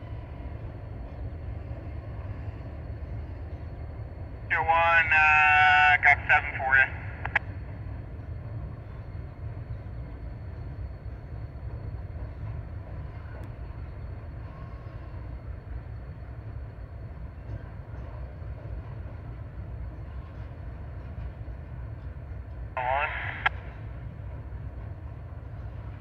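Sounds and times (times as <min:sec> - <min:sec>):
distant train rumbling: 0:00.0 - 0:26.0.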